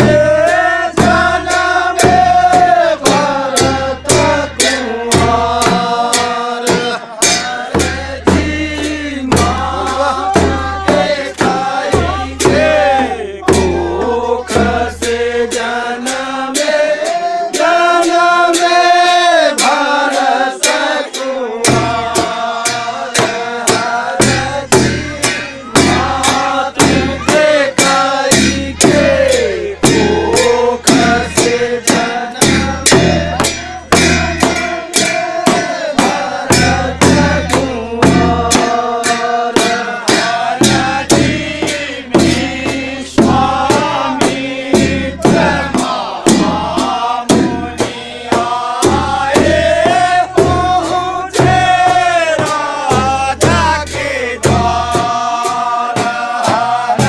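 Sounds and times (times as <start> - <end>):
men singing together: 0.0 - 57.0
sharp rhythmic beats: 0.0 - 57.0.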